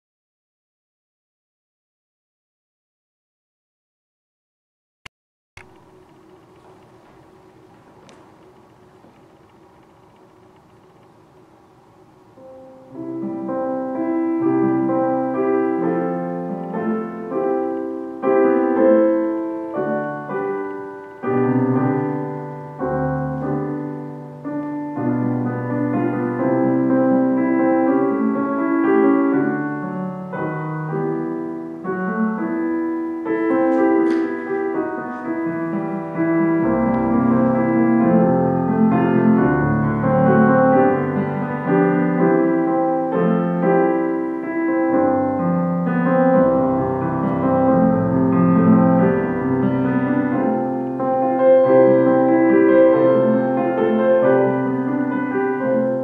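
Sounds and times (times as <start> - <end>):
digital piano chords: 5.6 - 56.0.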